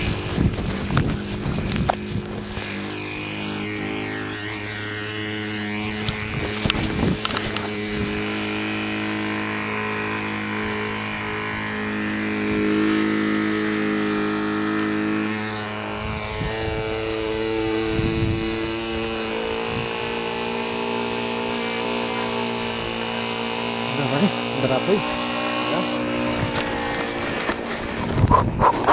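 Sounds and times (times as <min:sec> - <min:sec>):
model aircraft engine running: 0:00.0 - 0:28.9.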